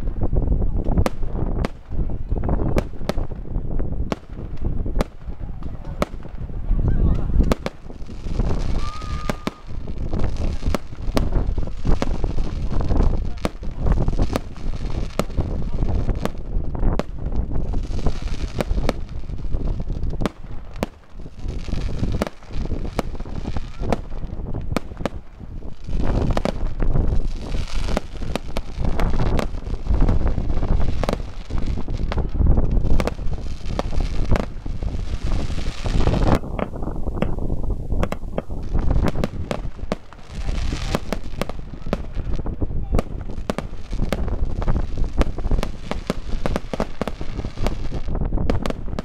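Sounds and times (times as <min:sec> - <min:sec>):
fireworks hissing and crackling: 0:00.0 - 0:49.0.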